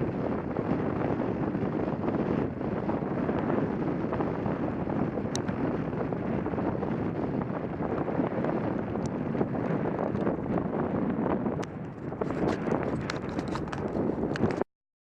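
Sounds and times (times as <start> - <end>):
wind on microphone: 0.0 - 14.6.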